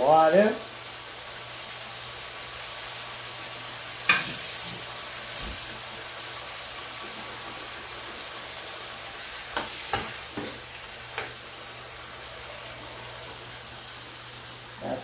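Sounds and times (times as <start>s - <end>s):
meat sizzling in a skillet: 0.0s - 15.0s.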